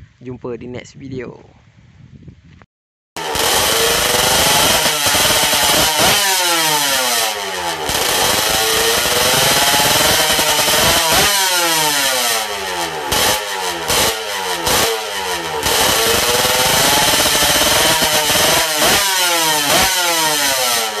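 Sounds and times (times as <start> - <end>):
two-stroke engine revving: 3.2 - 21.0.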